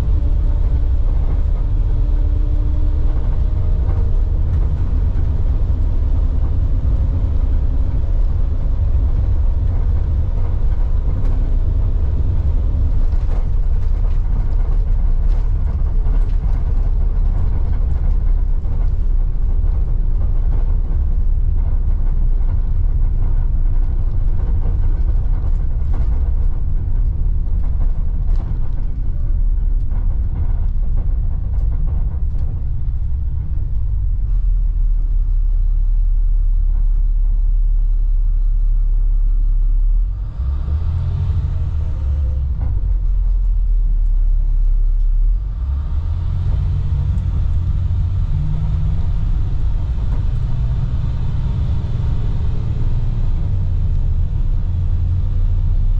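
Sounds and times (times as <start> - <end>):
diesel engine drone: 0.0 - 55.9
road rumble: 0.0 - 55.9.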